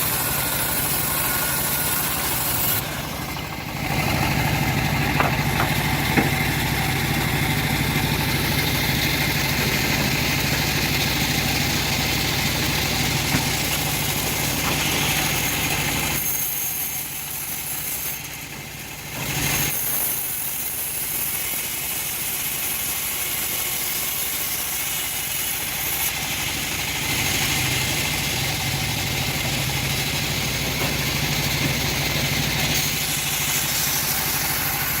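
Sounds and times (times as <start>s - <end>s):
bandsaw sawmill engine running: 0.0s - 35.0s.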